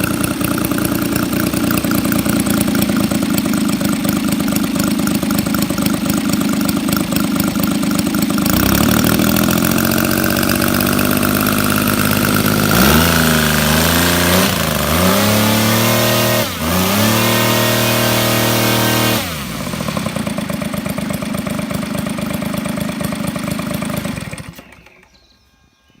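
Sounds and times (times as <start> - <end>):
model aircraft engine running: 0.0 - 25.2.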